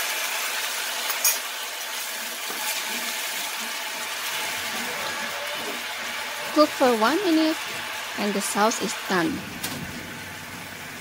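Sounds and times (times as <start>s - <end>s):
sauce sizzling in hot pan: 0.0s - 11.0s.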